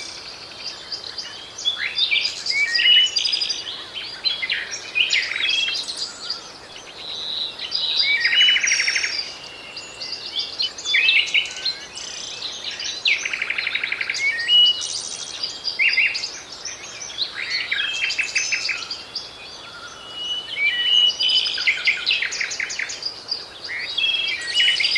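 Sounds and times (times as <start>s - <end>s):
songbirds singing: 0.0s - 24.9s.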